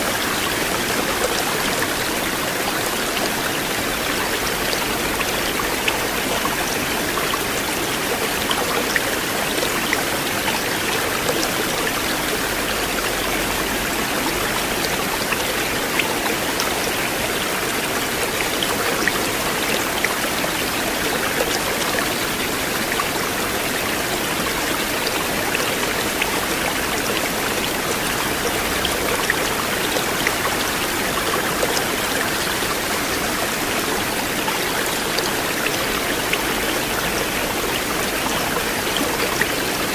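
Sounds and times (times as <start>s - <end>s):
river water rushing: 0.0s - 39.9s
small splashes and trickles: 0.0s - 39.9s.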